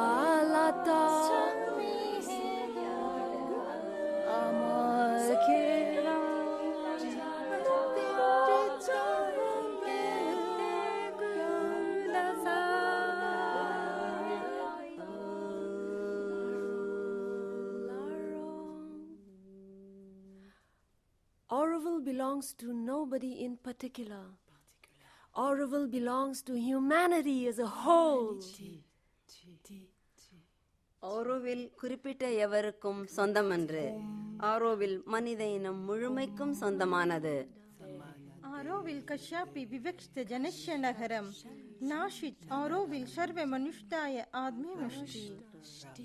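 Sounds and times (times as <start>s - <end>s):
women singing a cappella: 0.0s - 20.5s, 25.4s - 30.4s, 32.4s - 46.0s.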